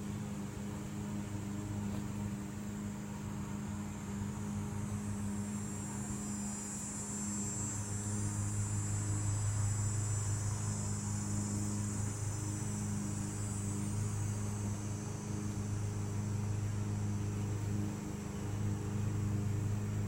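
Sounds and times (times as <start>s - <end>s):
faint high-pitched whine: 0.0s - 20.0s.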